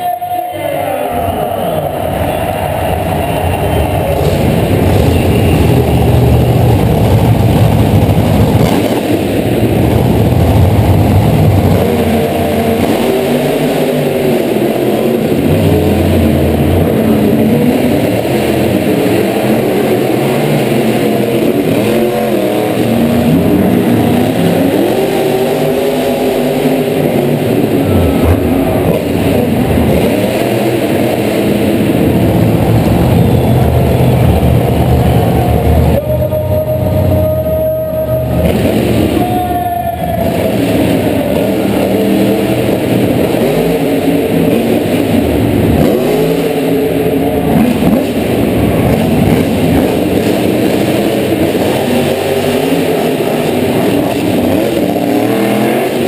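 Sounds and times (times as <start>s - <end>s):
monster truck engines revving: 0.0s - 56.0s.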